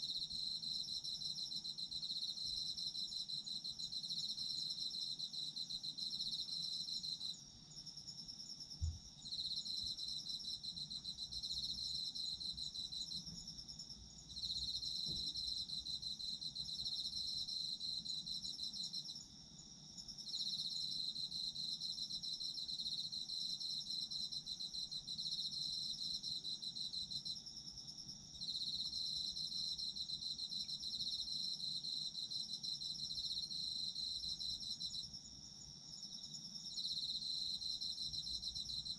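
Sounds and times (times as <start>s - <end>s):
high steady insect trill: 0.0s - 38.9s
low pulsing insect trill: 0.0s - 38.9s.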